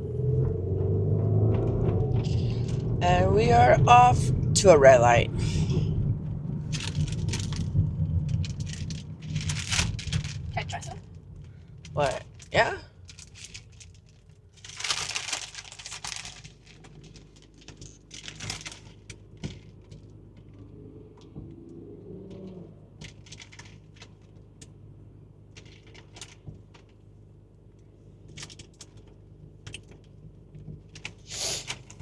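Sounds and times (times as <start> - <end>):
low steady hum: 0.0 - 31.1
rustling and crinkling: 0.2 - 4.1, 5.0 - 32.0.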